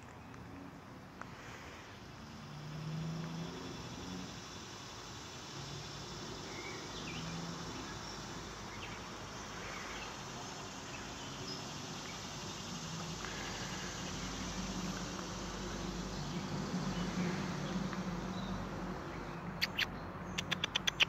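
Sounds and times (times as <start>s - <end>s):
insects buzzing: 1.1s - 19.4s.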